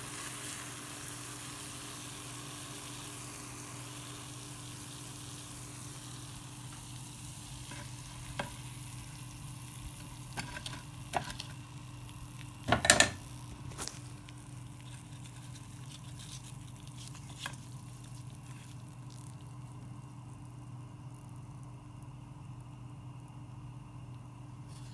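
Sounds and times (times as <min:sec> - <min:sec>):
batter sizzling in oil: 0:00.0 - 0:24.9.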